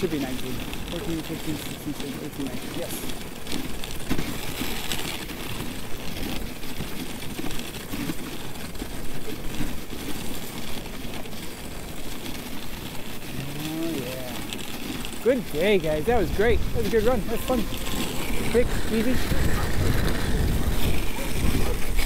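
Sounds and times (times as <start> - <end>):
sled runners hissing over snow: 0.0 - 22.0.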